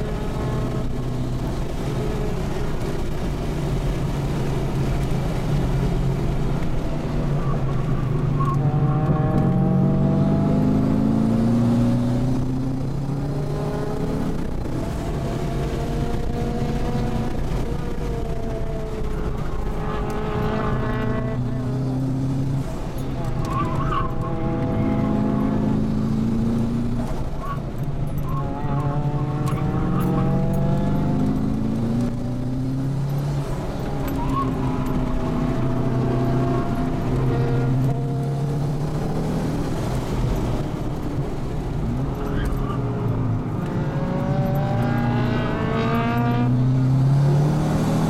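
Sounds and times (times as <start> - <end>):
car engine accelerating: 0.0 - 48.0
road noise: 0.0 - 48.0.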